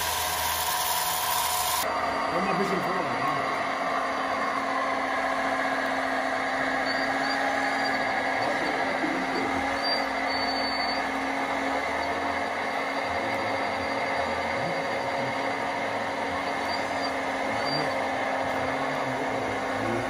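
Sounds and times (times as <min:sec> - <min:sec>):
toy excavator hydraulic whine: 0:00.0 - 0:20.0.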